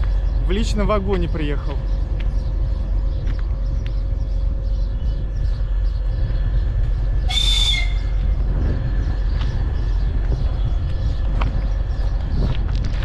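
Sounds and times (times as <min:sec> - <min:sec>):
diesel locomotive idling: 0:00.0 - 0:12.6.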